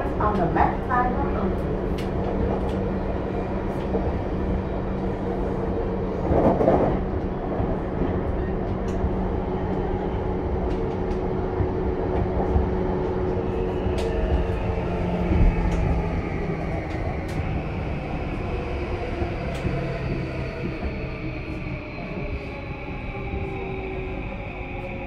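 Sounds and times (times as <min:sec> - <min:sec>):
rumble of train wheels: 0:00.0 - 0:25.0.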